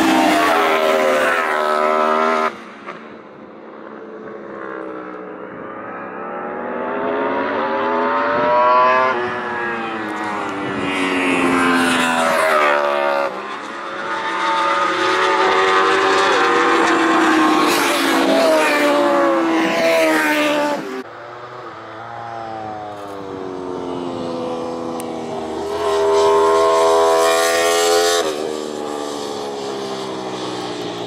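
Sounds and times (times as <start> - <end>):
racing motorcycles passing: 0.0 - 31.0.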